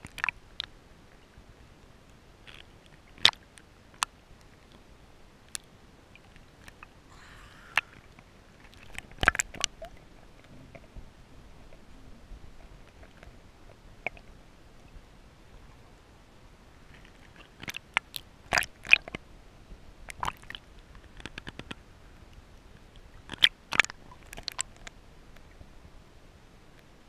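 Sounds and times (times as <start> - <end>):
low hiss: 0.0 - 27.0.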